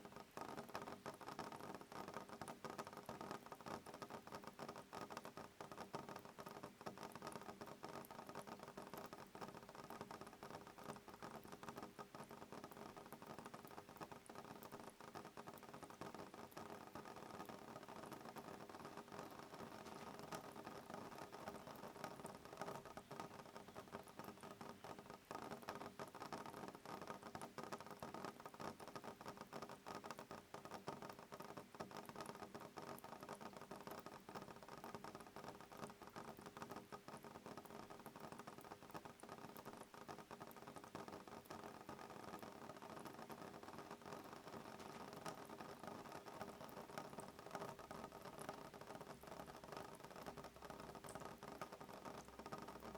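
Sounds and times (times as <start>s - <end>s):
soft rain pattering on window: 0.0s - 52.9s.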